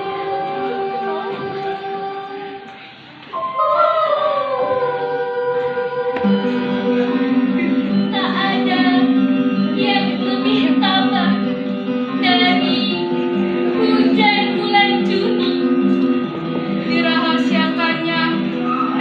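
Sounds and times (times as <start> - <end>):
woman singing: 0.0 - 2.8, 3.4 - 19.0
instrumental accompaniment: 0.0 - 19.0.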